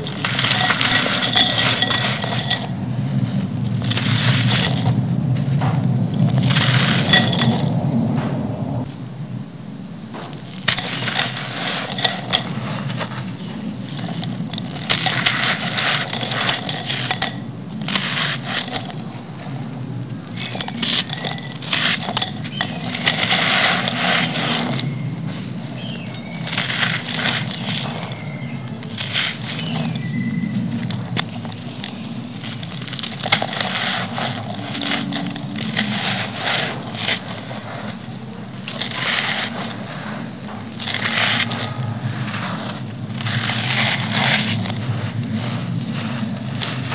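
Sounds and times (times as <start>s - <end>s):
dry chunks crushed in hand: 0.0s - 7.9s, 10.2s - 19.4s, 20.2s - 46.9s
grains pattering into pot: 0.0s - 8.1s, 10.1s - 46.9s.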